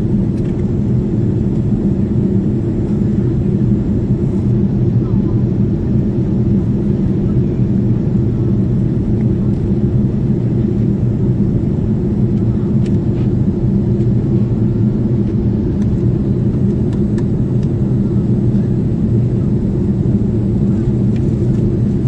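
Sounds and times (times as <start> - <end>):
jet engine drone: 0.0 - 22.0.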